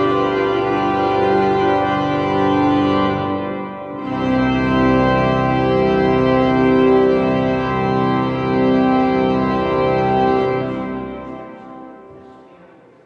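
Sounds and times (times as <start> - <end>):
pipe organ chords: 0.0 - 12.6.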